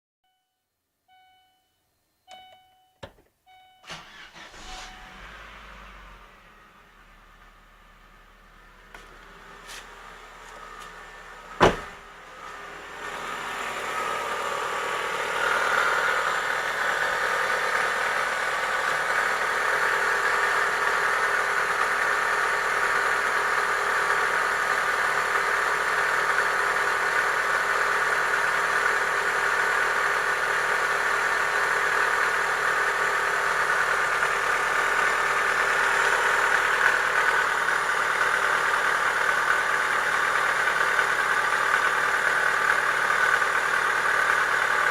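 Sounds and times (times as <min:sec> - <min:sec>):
car engine idling with knock: 0:08.8 - 0:44.9.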